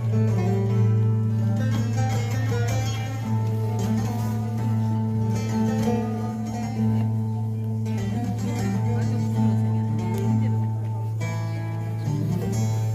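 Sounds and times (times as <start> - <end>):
plucked string instrument: 0.0 - 12.9.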